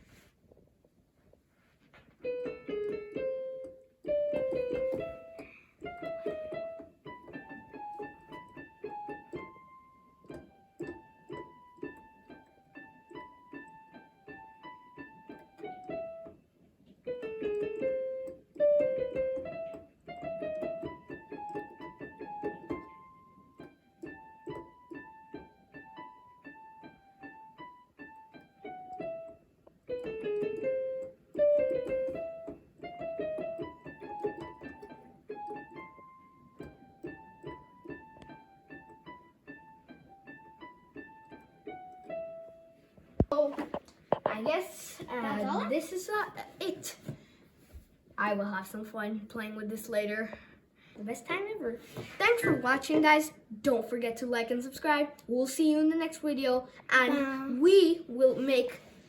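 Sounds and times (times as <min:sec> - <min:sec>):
keyboard piano melody: 0:02.0 - 0:59.0.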